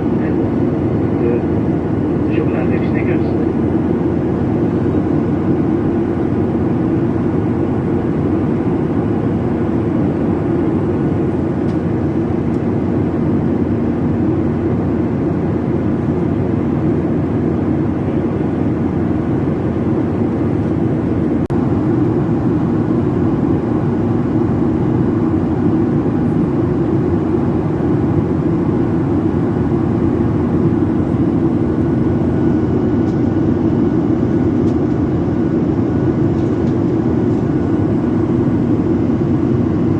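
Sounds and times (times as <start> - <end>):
jet airliner cabin engine noise: 0.0 - 39.9.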